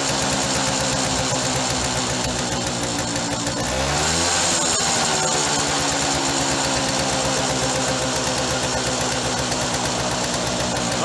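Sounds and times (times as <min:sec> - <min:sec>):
two-stroke motorcycle engine idling: 0:00.0 - 0:11.0.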